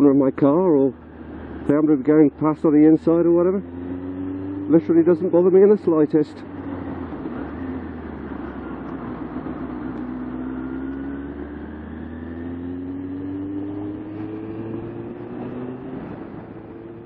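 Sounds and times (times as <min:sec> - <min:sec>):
road rumble: 0:00.0 - 0:17.0
vehicle engine accelerating: 0:00.0 - 0:17.0.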